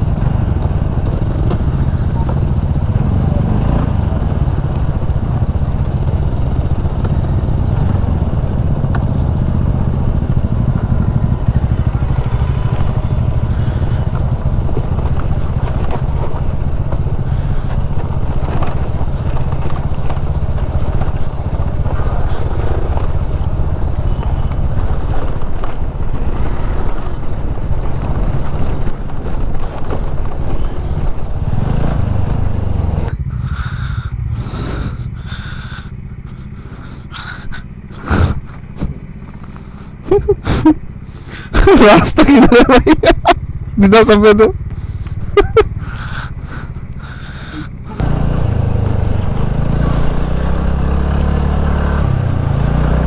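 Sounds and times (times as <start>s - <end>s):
scooter engine running: 0.0s - 53.0s.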